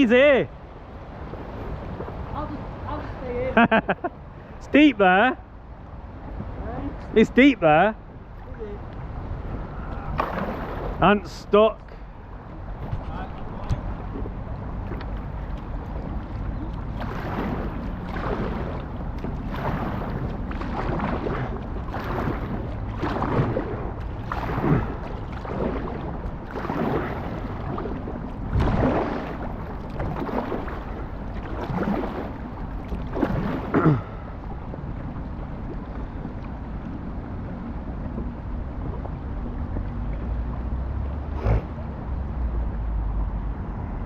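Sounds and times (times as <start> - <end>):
steady low rumble: 0.0 - 44.0
paddle splashing in water: 0.8 - 3.5, 8.2 - 11.4, 12.0 - 43.1.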